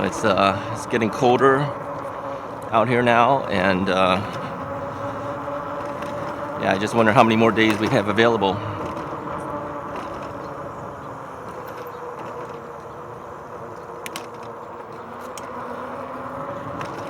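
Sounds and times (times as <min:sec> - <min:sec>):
bike tires rolling rumble: 0:00.0 - 0:17.0
faint motor whine: 0:00.0 - 0:17.0.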